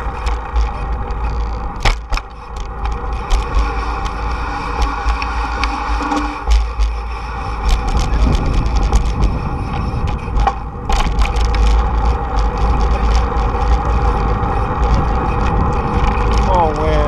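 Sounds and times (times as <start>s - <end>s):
bicycle rattling over bumps: 0.0s - 17.0s
bicycle tyres on pavement: 0.0s - 17.0s
wind rumbling on microphone: 0.0s - 17.0s.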